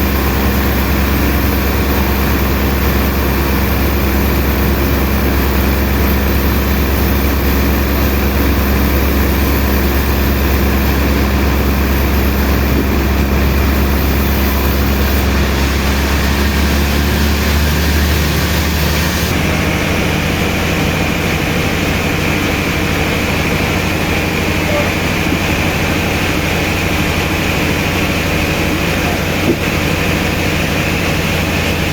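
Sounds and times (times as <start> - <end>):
heavy machinery humming: 0.0 - 31.9.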